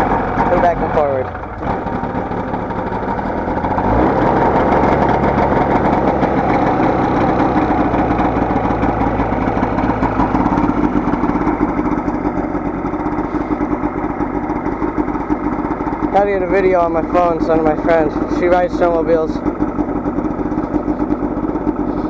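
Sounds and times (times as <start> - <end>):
snowmobile engine idling: 0.0 - 22.0.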